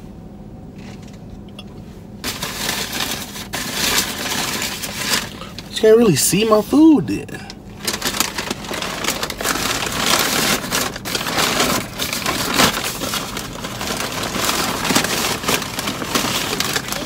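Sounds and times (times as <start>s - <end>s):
paper bag rustling and crinkling: 2.2s - 17.0s.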